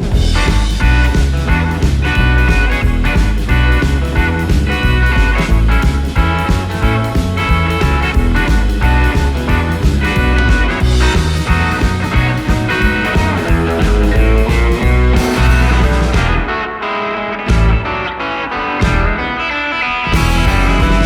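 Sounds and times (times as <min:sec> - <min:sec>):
rock music with electric guitar: 0:00.0 - 0:21.0.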